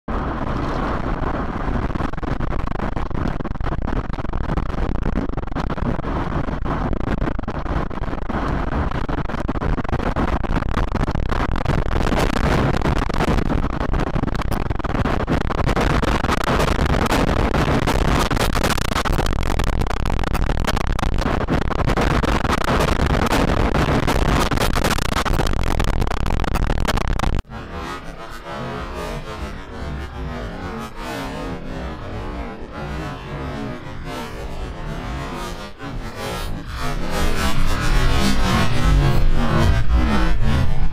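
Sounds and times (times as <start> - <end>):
tornado wind rushing: 0.1 - 40.9.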